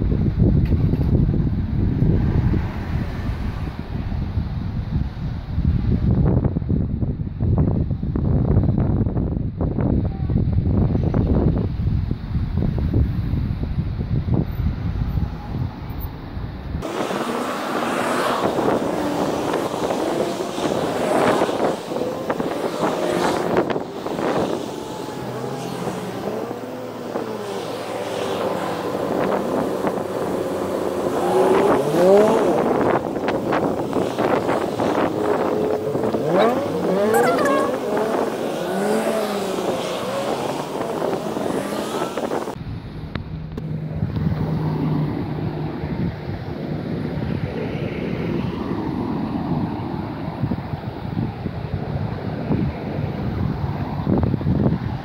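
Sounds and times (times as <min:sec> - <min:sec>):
passing road traffic: 0:00.0 - 0:09.7, 0:10.3 - 0:55.0
wind buffeting microphone: 0:00.0 - 0:27.5, 0:28.4 - 0:37.1, 0:37.7 - 0:55.0.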